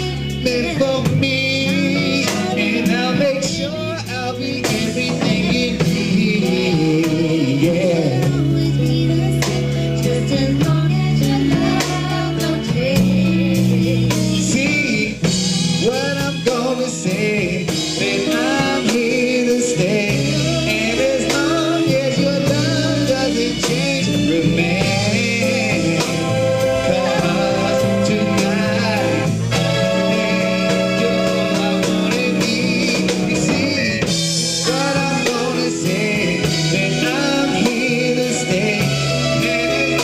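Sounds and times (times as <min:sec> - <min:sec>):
band with drums and bass: 0:00.0 - 0:40.0
man singing: 0:00.0 - 0:40.0.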